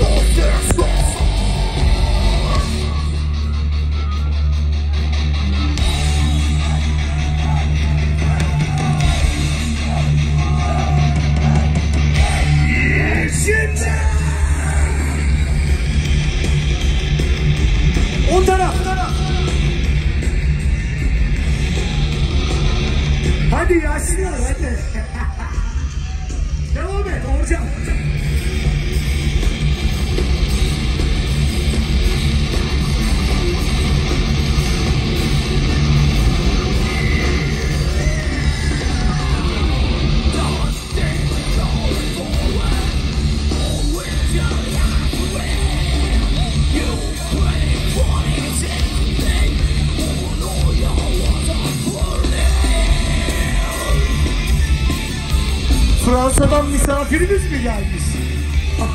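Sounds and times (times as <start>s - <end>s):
crowd shouting: 0.0s - 58.9s
heavy metal band playing: 0.0s - 58.9s.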